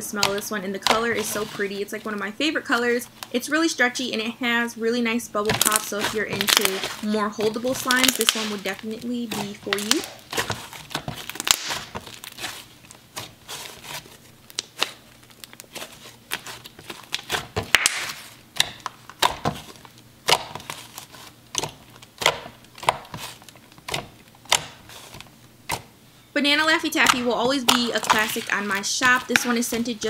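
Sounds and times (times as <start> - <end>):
hands squishing slime: 0.0 - 2.1, 5.5 - 25.9, 26.9 - 30.0.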